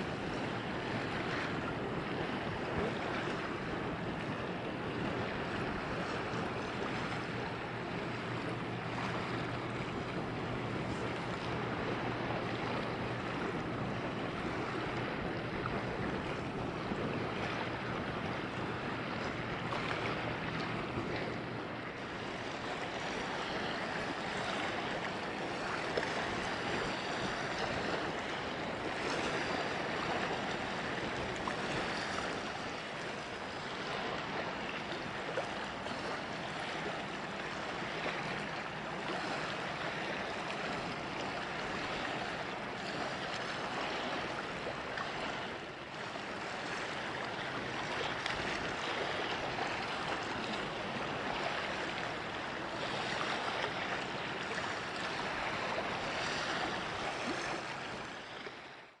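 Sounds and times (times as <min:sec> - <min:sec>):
wind and water rushing: 0:00.0 - 0:59.0.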